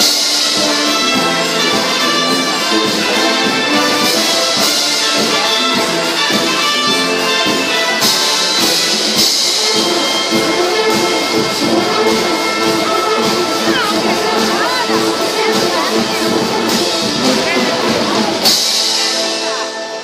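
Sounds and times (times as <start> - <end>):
brass marching band playing: 0.0 - 20.0
percussion strikes: 0.0 - 20.0.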